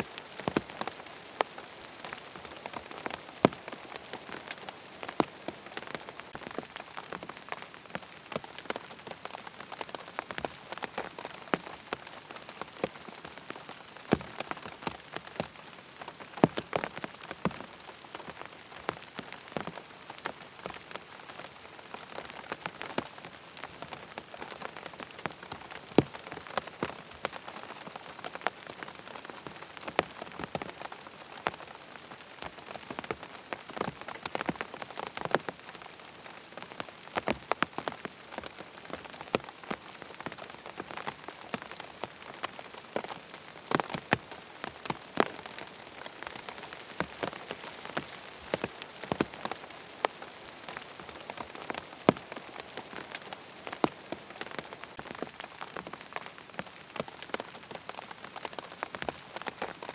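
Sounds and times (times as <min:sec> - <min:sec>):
rain hissing: 0:00.0 - 0:58.6.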